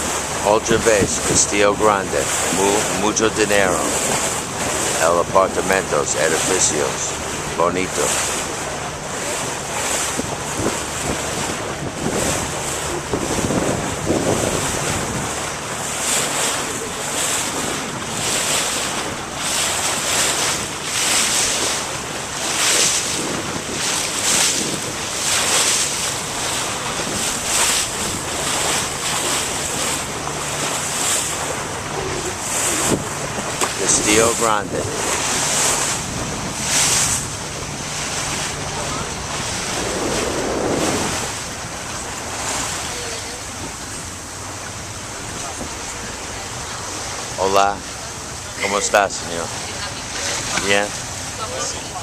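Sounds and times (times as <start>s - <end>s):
boat engine hum: 0.0s - 52.0s
water rushing past boat hull: 0.0s - 52.0s
wind buffeting microphone: 0.0s - 52.0s.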